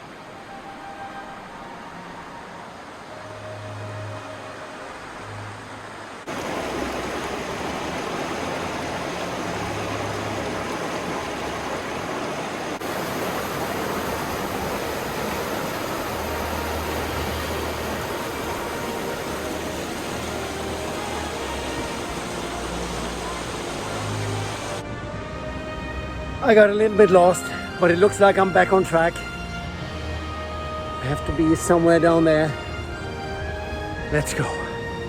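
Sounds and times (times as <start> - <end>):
rushing river water: 0.0 - 35.0.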